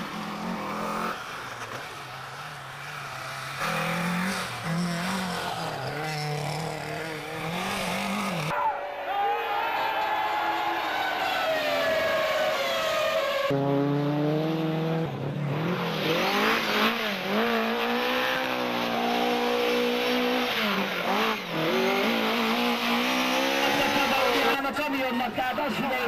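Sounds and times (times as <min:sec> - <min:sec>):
racing car engines passing: 0:00.0 - 0:08.5, 0:10.6 - 0:26.0
rally car engine revving: 0:00.0 - 0:08.5, 0:11.2 - 0:24.8.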